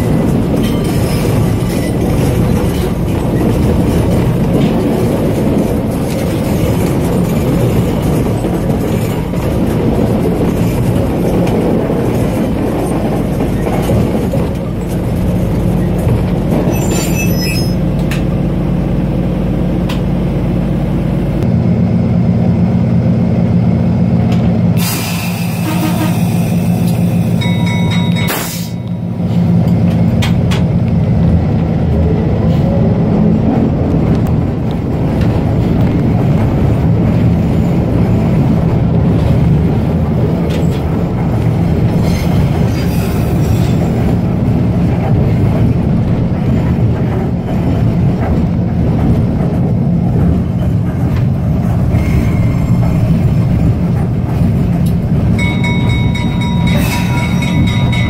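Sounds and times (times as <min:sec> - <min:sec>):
locomotive diesel engine running: 0:00.0 - 0:58.0.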